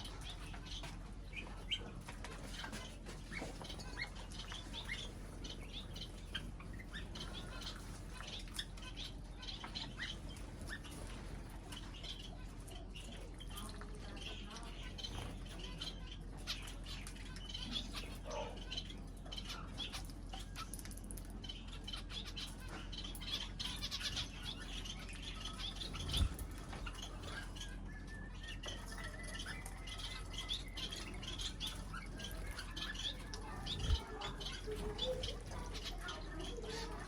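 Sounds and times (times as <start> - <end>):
cage birds chirping: 0.0 - 37.0
faint low hum: 0.0 - 37.0.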